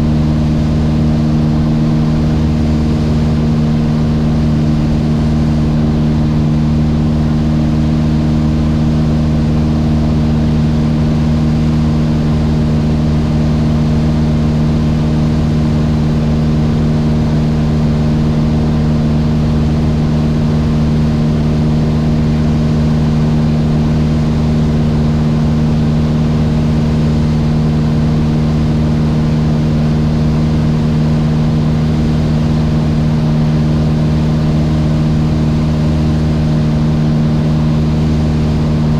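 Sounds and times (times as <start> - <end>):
airplane engine and propeller droning: 0.0 - 38.9.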